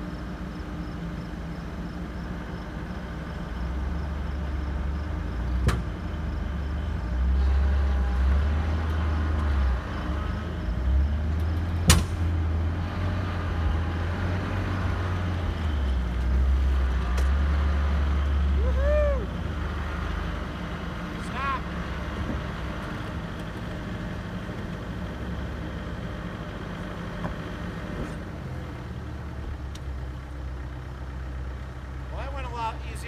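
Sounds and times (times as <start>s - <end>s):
engines rumbling under load: 0.0s - 33.0s.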